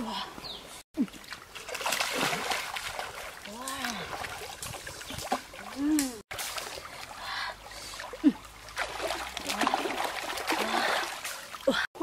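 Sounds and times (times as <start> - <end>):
water splashing: 1.0 - 12.0.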